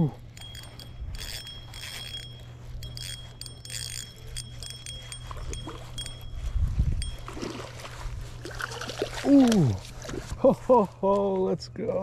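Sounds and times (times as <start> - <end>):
spinning reel whirring: 0.0 - 9.7
steady low hum: 0.0 - 12.0.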